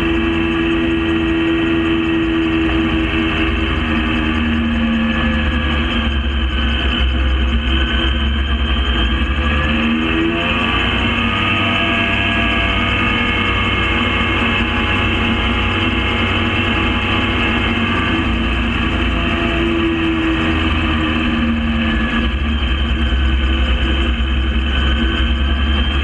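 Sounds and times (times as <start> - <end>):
gyrocopter engine and propeller: 0.0 - 26.0.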